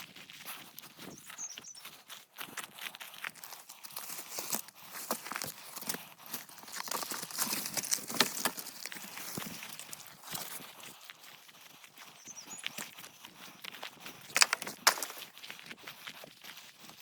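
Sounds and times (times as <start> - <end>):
dry brush crunching and crackling: 0.0 - 17.0.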